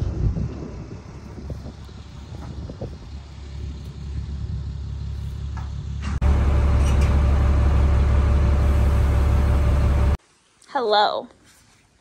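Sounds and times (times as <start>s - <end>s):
low outdoor rumble: 0.0s - 10.2s
truck engine and road rumble: 0.0s - 10.2s.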